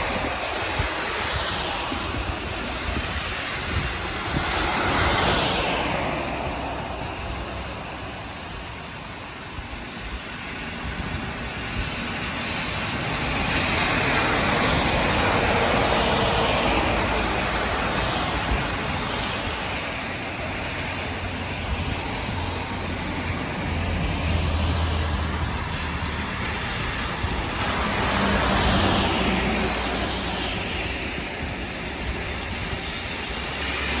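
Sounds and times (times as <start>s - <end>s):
tyres hissing on wet road: 0.0s - 34.0s.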